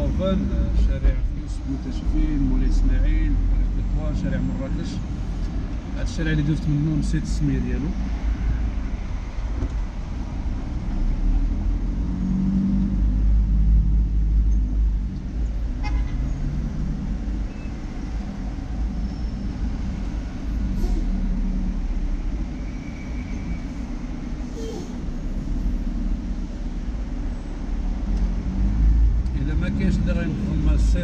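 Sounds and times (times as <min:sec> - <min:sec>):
car engine rumble: 0:00.0 - 0:31.0
road noise inside car: 0:00.0 - 0:31.0.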